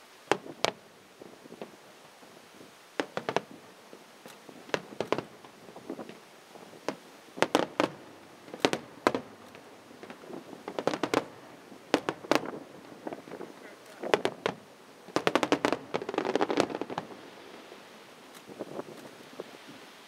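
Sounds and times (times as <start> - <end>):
firework shells bursting: 0.3 - 1.8, 3.0 - 19.1.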